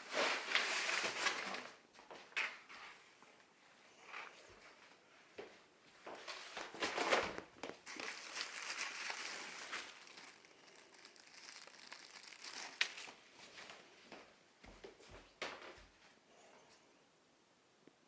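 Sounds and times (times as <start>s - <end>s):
wallpaper crinkling and rustling: 0.0s - 16.2s.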